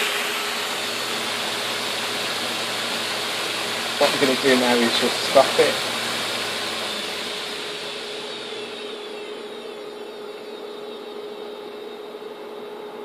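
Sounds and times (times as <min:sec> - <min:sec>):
hard drive whir spinning down: 0:00.0 - 0:13.0
steady hum: 0:00.0 - 0:13.0.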